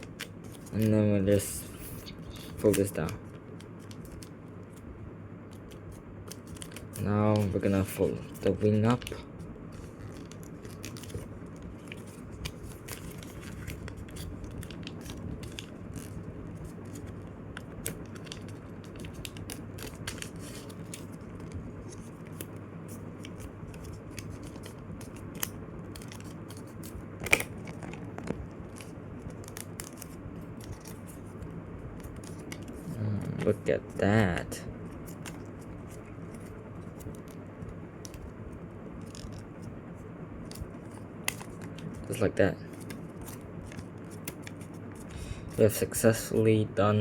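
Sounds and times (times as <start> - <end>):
paper rustling and crackling: 0.0 - 4.8, 5.5 - 39.7, 40.4 - 45.8
steady low hum: 0.0 - 47.0.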